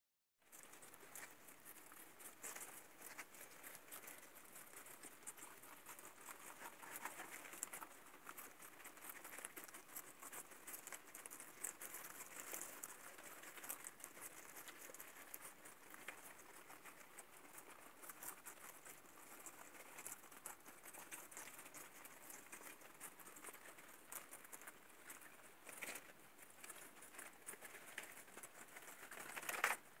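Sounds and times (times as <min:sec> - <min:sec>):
guinea pigs munching vegetables: 0:00.4 - 0:30.0.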